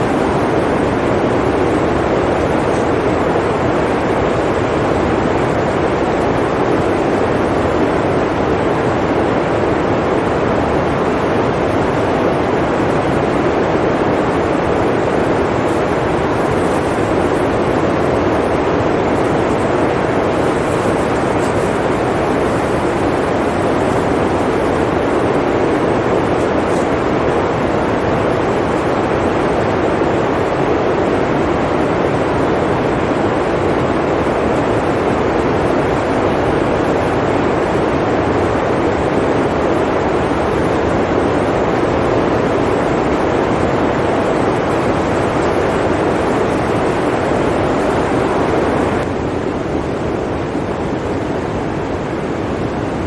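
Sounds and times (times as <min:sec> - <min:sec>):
blizzard wind roaring: 0:00.0 - 0:53.0.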